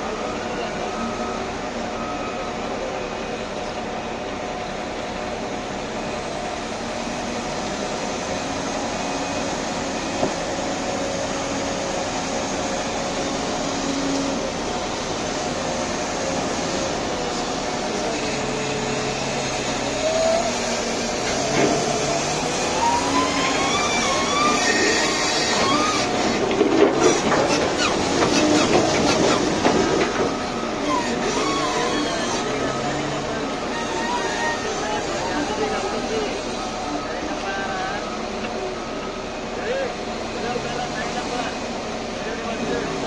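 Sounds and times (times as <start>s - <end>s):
machinery whines: 0.0s - 43.0s
wheel loader diesel engine: 0.0s - 43.0s.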